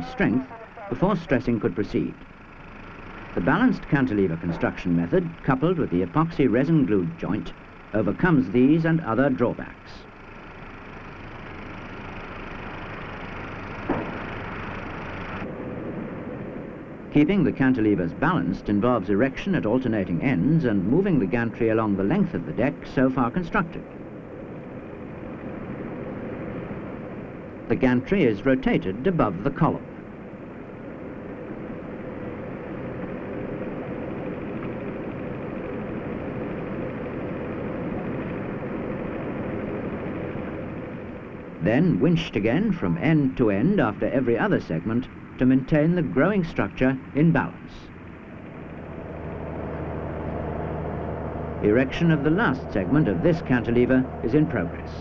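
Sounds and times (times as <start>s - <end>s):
machinery running: 0.0s - 55.0s.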